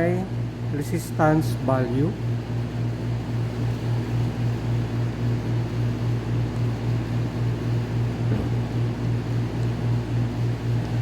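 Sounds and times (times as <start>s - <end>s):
pulsing machine hum: 0.0s - 11.0s.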